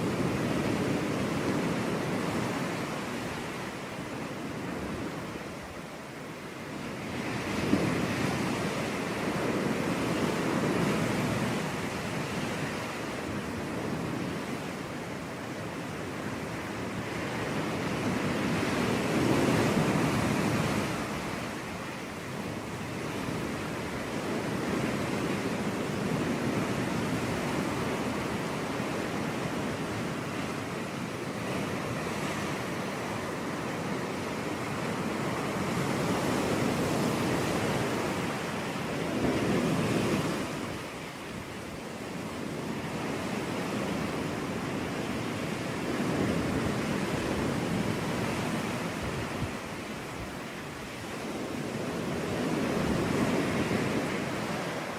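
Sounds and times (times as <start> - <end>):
ocean waves breaking on beach: 0.0 - 54.9.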